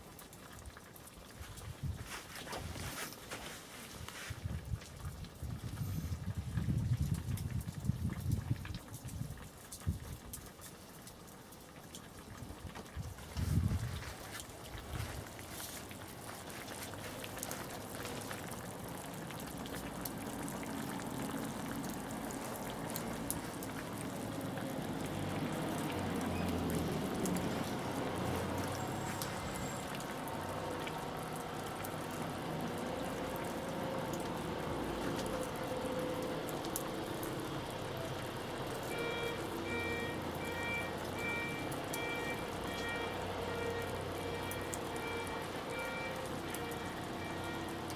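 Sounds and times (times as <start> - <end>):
pot bubbling: 0.0 - 47.9
wood fire crackling: 0.0 - 47.9.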